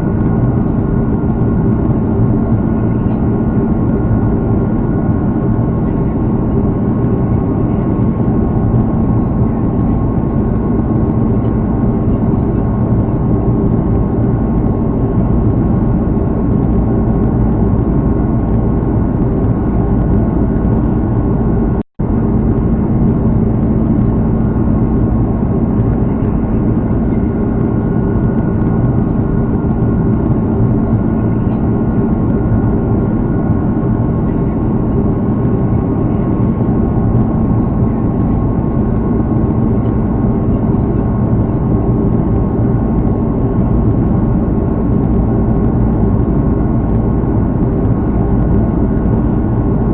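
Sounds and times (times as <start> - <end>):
jet engines from inside cabin: 0.0 - 49.9.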